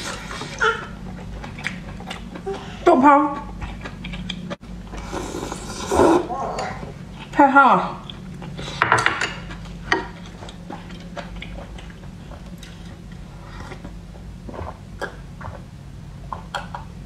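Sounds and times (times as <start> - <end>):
person chewing: 0.0 - 7.4, 8.0 - 15.7
low steady hum: 0.0 - 17.0.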